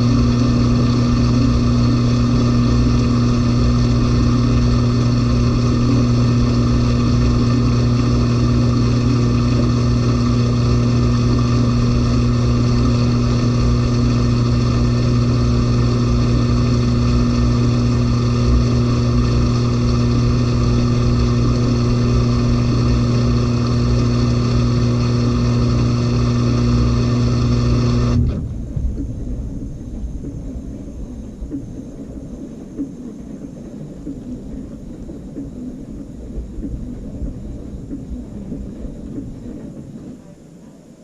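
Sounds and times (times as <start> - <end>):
drum coasting rumble: 0.0 - 41.0
washing machine spinning: 0.0 - 41.0.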